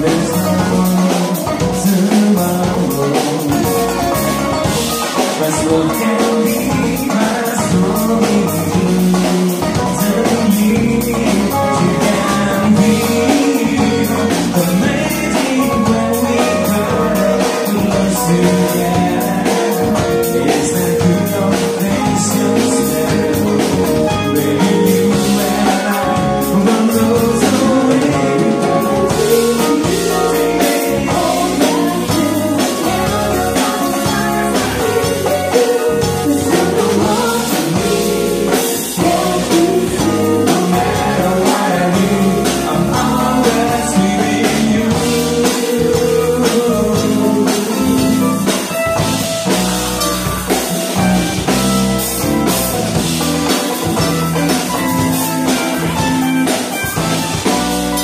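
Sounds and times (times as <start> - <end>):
person singing: 0.0 - 49.7
drum kit: 0.0 - 58.0
guitar: 0.0 - 58.0.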